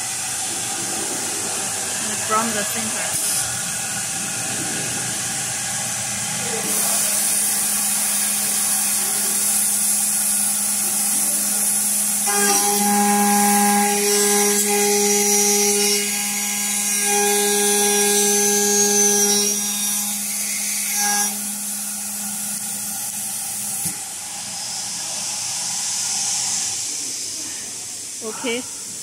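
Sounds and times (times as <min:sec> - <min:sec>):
cutter whining into metal: 0:00.0 - 0:27.2
milling machine spindle running: 0:00.0 - 0:28.2.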